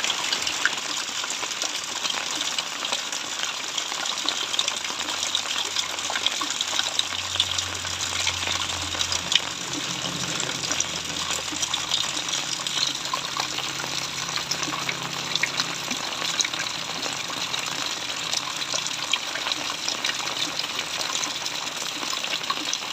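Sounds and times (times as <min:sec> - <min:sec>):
rain falling: 0:00.0 - 0:22.9.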